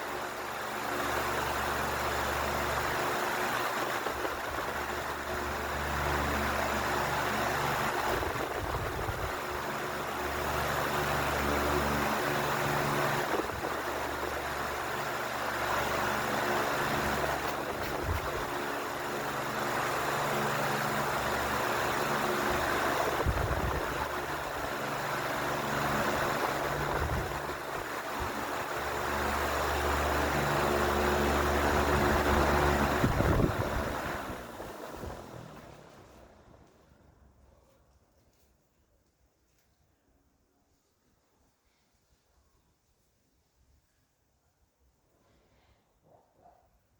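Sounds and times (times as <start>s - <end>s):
fan motor hum: 0.0s - 37.7s
wall fan air rushing: 0.0s - 38.7s.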